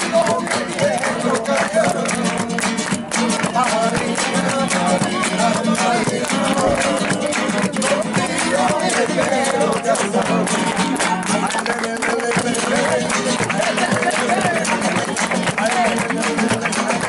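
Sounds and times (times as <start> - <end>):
flamenco acoustic guitar strumming: 0.0 - 17.0
people singing: 0.0 - 17.0.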